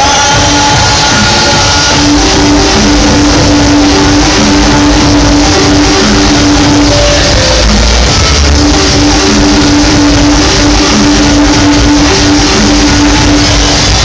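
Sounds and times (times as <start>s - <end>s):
loud dubstep over sound system: 0.0s - 14.0s.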